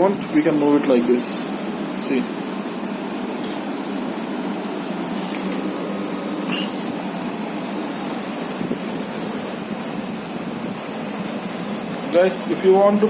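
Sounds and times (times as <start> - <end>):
portable air conditioner running: 0.0 - 13.0.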